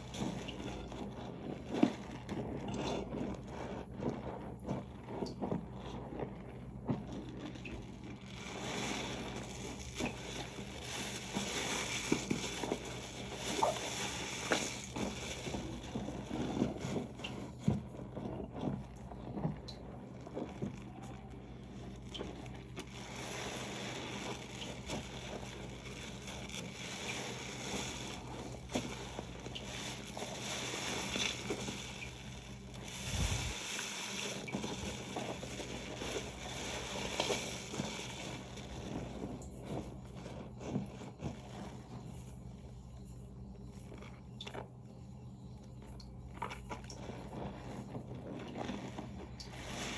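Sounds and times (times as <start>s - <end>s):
soapy sponge squishing: 0.0s - 45.0s, 45.6s - 49.9s.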